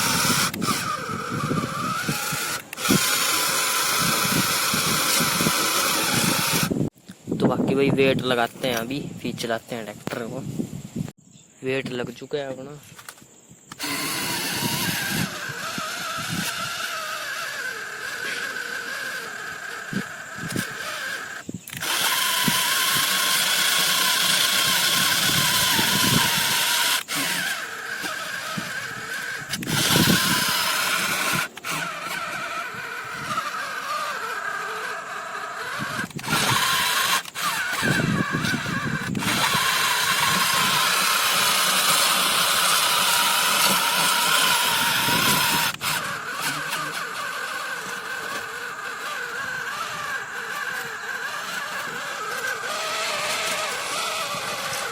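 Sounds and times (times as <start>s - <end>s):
small model tractor motor: 0.0s - 6.9s, 13.0s - 54.9s
gearbox gears whining: 0.0s - 7.0s, 12.9s - 54.9s.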